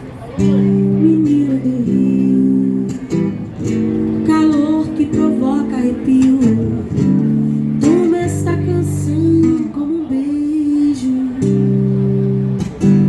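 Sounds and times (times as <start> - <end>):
acoustic guitar strumming: 0.0 - 13.0
woman singing: 0.5 - 11.8.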